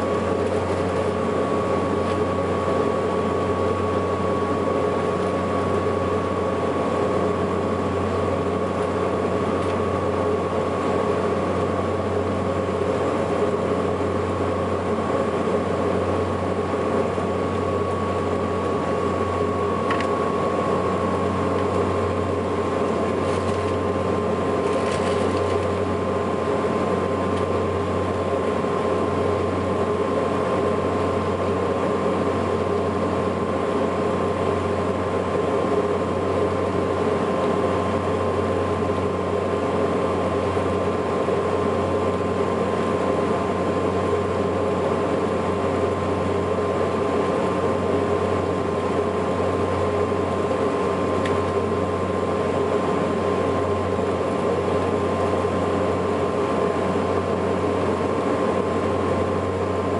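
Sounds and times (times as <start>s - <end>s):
propeller hum: 0.0s - 59.9s
turboprop whine: 0.0s - 59.9s.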